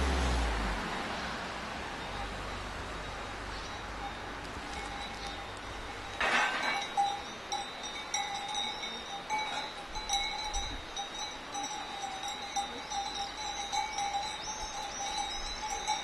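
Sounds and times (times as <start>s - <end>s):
cow bells ringing: 2.0s - 16.0s.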